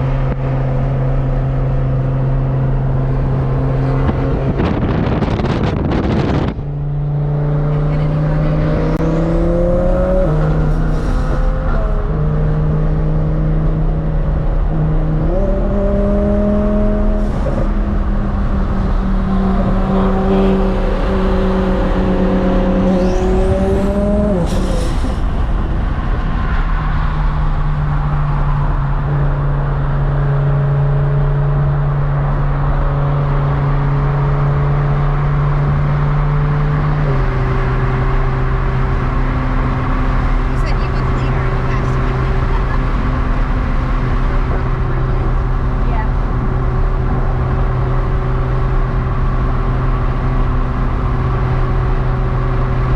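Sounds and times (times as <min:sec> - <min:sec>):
sports car engine droning: 0:00.0 - 0:52.9.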